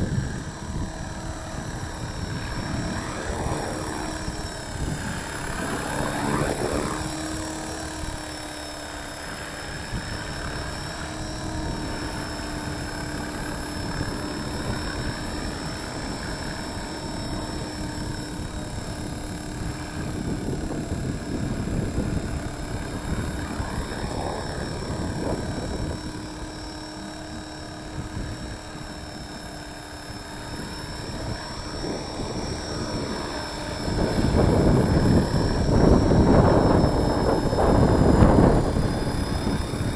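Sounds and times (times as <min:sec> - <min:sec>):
rc helicopter hovering: 0:00.0 - 0:39.9
wind noise on microphone: 0:00.0 - 0:39.9.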